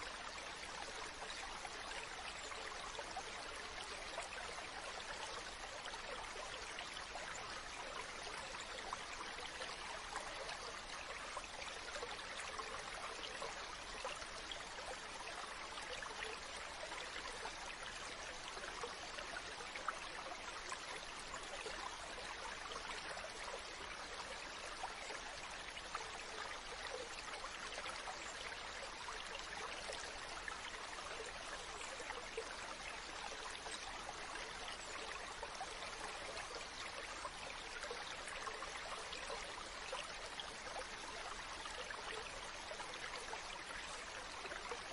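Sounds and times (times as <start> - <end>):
stream babbling: 0.0 - 44.9.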